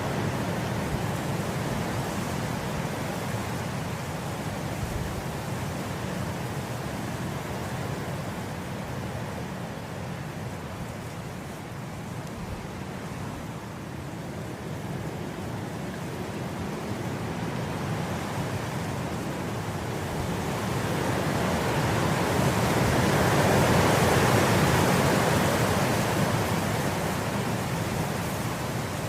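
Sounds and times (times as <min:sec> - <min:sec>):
wind blowing through grass: 0:00.0 - 0:29.0.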